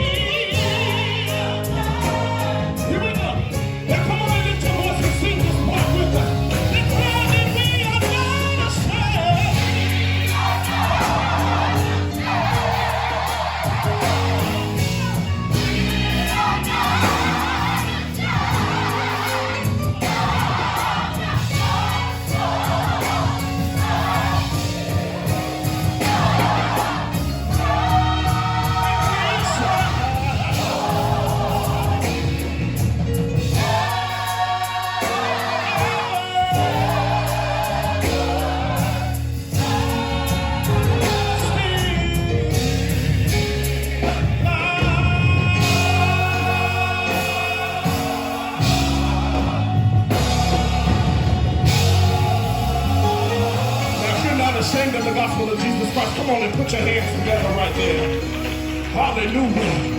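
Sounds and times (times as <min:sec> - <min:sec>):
drum kit and cymbals: 0:00.0 - 0:59.9
gospel choir singing: 0:00.0 - 0:59.9
instrumental backing: 0:00.0 - 0:59.9.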